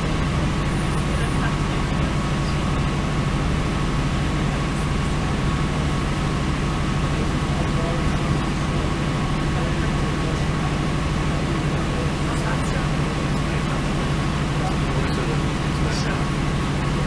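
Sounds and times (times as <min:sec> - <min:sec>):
diesel train running: 0:00.0 - 0:17.0.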